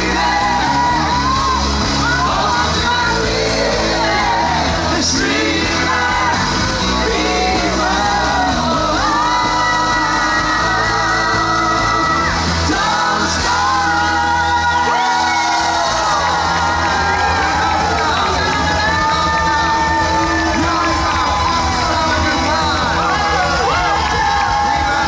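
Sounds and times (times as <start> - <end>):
crowd yelling and whooping: 0.0 - 25.0
lead vocal holding long notes: 0.0 - 25.0
live band playing pop song: 0.0 - 25.0.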